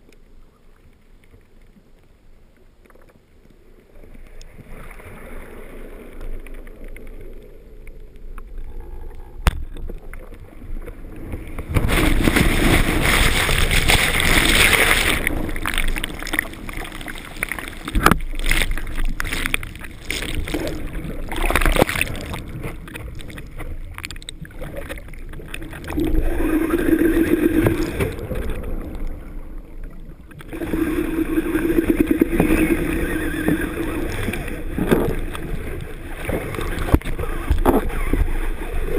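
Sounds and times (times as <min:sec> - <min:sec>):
waves roaring underwater: 0:03.4 - 0:38.9.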